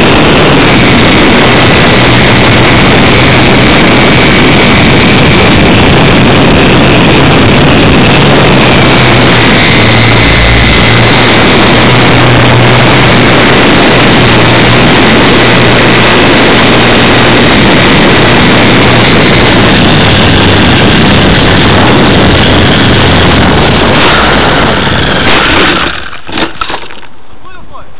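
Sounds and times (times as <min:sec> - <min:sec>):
faint high whine: 0:00.0 - 0:26.0
wind rushing over microphone: 0:00.0 - 0:26.3
model plane motor and propeller: 0:00.0 - 0:26.7.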